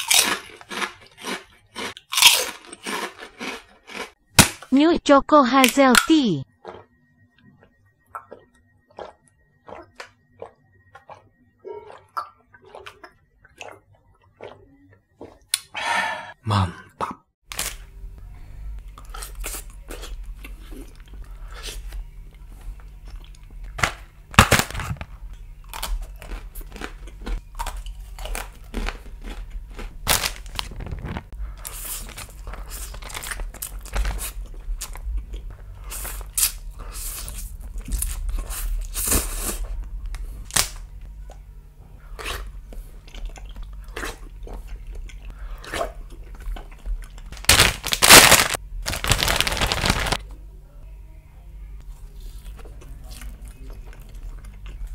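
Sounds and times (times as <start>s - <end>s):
crunching and chewing snack: 0.0s - 4.2s, 6.5s - 15.7s, 18.9s - 41.4s, 42.0s - 50.2s, 52.1s - 54.9s
low background hum: 0.0s - 54.9s.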